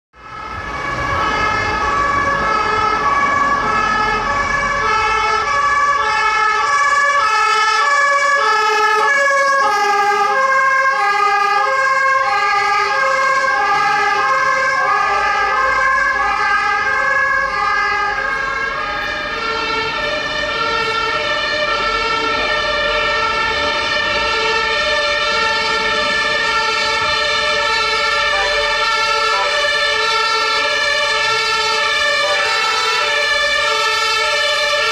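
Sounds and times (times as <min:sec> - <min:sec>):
two-tone fire engine siren: 0:00.1 - 0:34.9.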